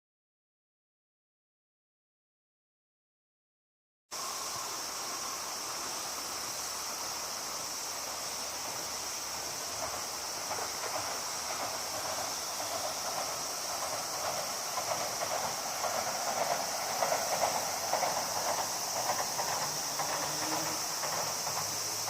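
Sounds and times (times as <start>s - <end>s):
high-pitched insect drone: 4.2s - 22.0s
river water running: 4.2s - 22.0s.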